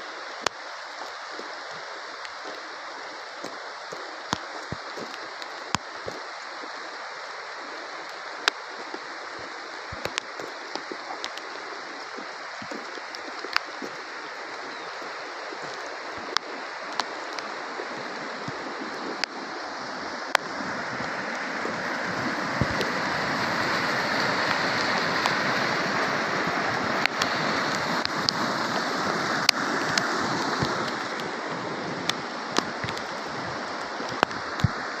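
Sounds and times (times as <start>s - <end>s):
heavy rain pouring: 0.0s - 35.0s
raindrops hitting a surface: 0.0s - 35.0s.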